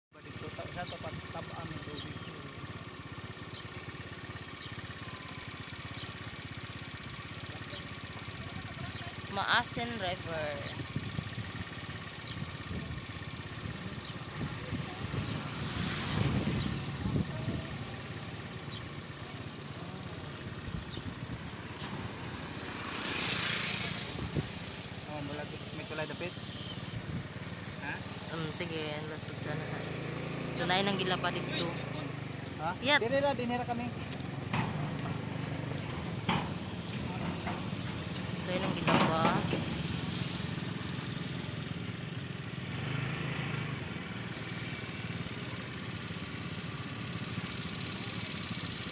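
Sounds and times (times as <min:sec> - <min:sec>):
small engine rumbling: 0:00.2 - 0:48.9.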